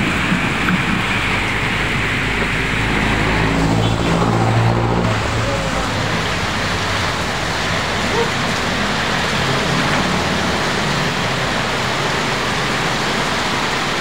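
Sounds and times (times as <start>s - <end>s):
heavy rain pouring: 0.0s - 14.0s
vehicles driving on wet road: 0.0s - 14.0s.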